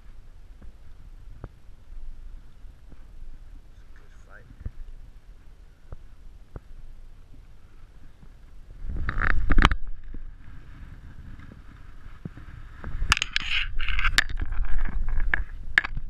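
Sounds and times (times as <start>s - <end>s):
low microphone rumble: 0.0s - 16.0s.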